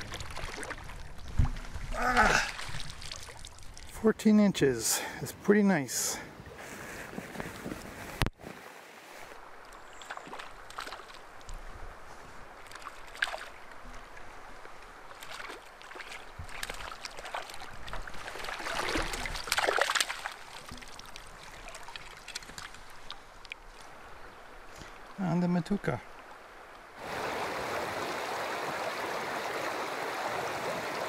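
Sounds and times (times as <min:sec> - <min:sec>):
water splashing and trickling: 0:00.0 - 0:05.2, 0:06.1 - 0:31.0.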